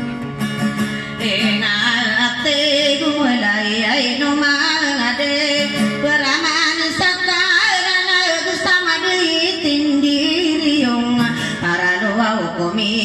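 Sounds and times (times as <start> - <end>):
acoustic guitar: 0.0 - 13.0
woman singing: 1.1 - 13.0.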